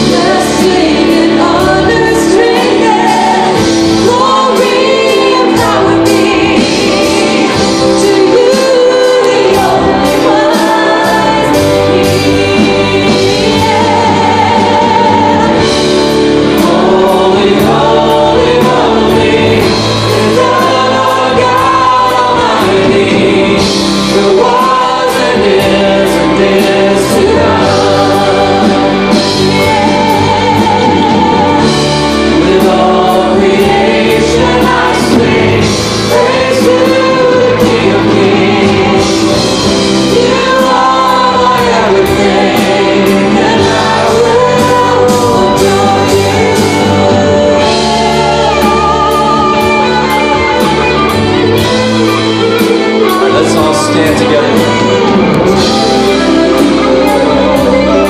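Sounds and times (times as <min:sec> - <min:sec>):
bass guitar: 0:00.0 - 0:58.0
drums: 0:00.0 - 0:58.0
electric guitars: 0:00.0 - 0:58.0
keyboard: 0:00.0 - 0:58.0
voices singing: 0:00.0 - 0:58.0.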